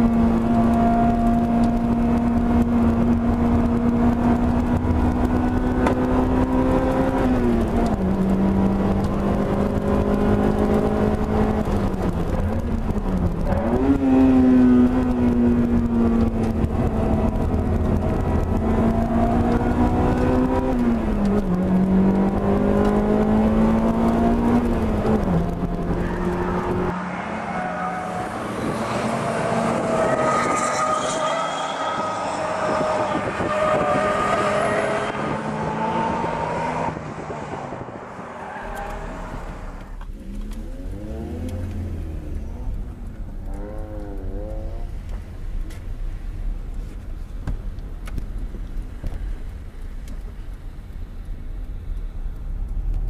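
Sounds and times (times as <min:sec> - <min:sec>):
race cars passing: 0:00.0 - 0:45.1
car engine at high revs: 0:00.0 - 0:53.0.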